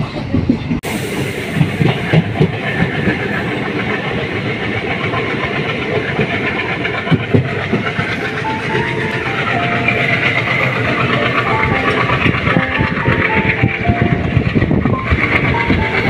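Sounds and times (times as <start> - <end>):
passing train: 0.0 - 16.0
train wheel and wind rush: 0.0 - 16.0
wheels clattering over rails: 1.6 - 16.0.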